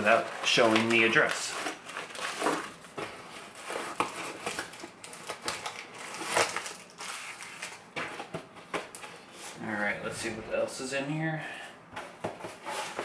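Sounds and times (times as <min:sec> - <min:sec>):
crinkling and scraping: 0:00.0 - 0:10.4, 0:12.0 - 0:13.0.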